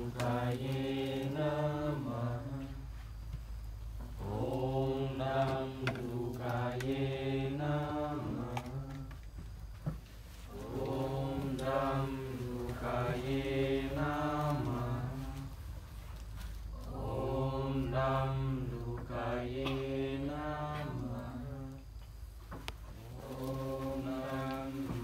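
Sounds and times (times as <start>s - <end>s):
person chanting: 0.0s - 3.0s, 4.2s - 9.2s, 10.5s - 15.6s, 16.7s - 21.9s, 22.9s - 25.0s.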